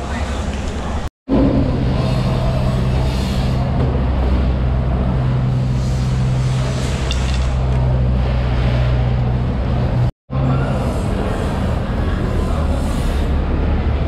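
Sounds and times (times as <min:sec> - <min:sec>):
low machine hum: 0:01.3 - 0:14.0.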